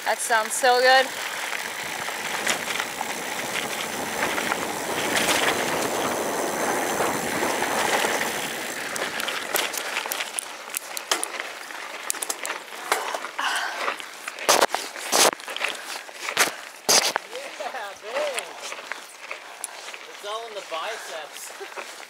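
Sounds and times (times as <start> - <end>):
bike rattling over rough ground: 0.0 - 22.0
wind and tyre noise: 0.0 - 22.0.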